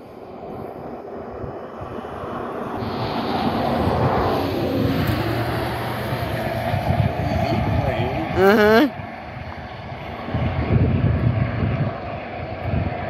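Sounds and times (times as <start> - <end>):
engine drone approaching: 0.0 - 13.0.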